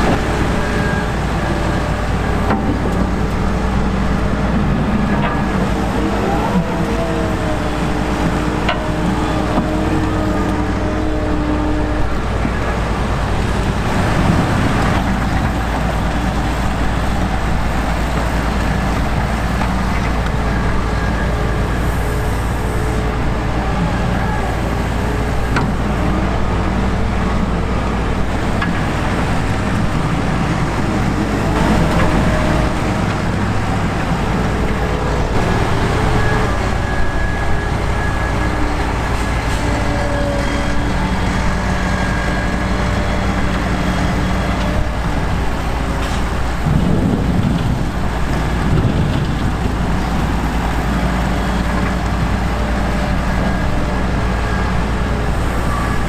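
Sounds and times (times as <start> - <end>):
engine drone: 0.0 - 56.0
heavy harvesting machinery running: 0.0 - 56.0.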